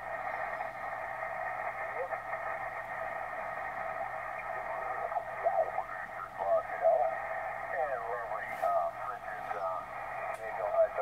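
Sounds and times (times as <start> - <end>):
radio band noise hiss: 0.0 - 11.0
warbling off-tune radio signal: 0.0 - 11.0.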